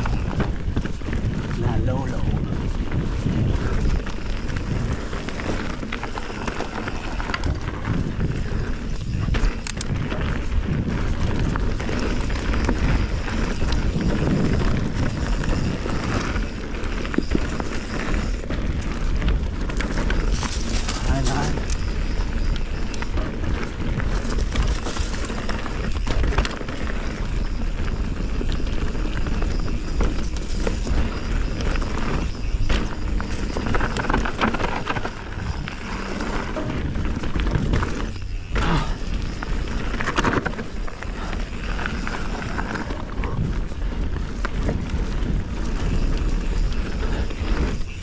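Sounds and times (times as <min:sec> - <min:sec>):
bike chain and frame rattling: 0:00.0 - 0:48.0
bike tyres rolling on dirt: 0:00.0 - 0:48.0
wind rumble on microphone: 0:00.0 - 0:48.0.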